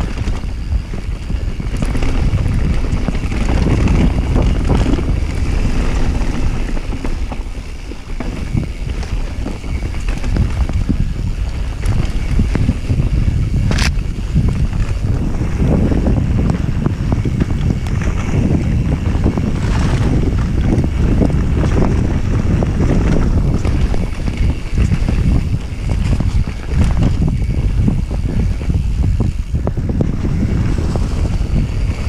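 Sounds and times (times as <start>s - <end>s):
tyres rolling over dry leaves: 0.0s - 28.0s
wind buffeting microphone: 0.0s - 32.0s.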